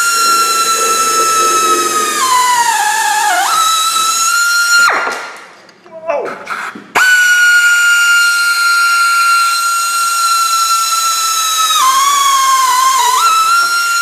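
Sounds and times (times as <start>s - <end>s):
air ratchet whining: 0.0s - 5.0s, 7.0s - 14.0s.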